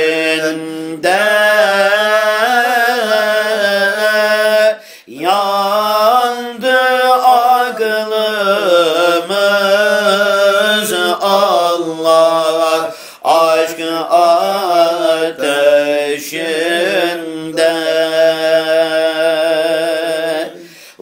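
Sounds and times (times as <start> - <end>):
person singing a hymn: 0.0 - 21.0.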